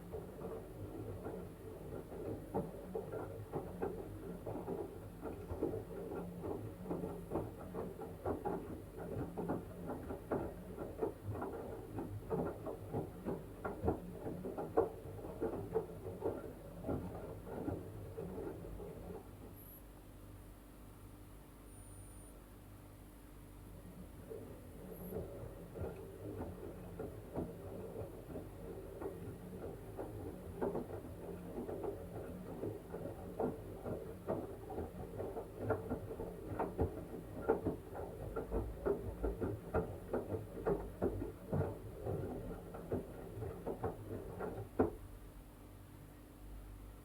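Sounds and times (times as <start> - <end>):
water sloshing in washing machine: 0.0 - 19.4, 23.8 - 45.3.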